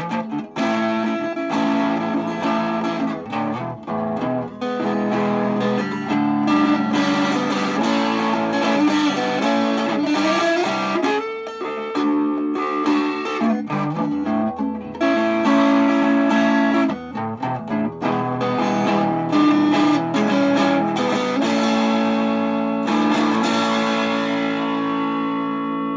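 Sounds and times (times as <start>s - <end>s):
guitar music: 0.0s - 25.9s.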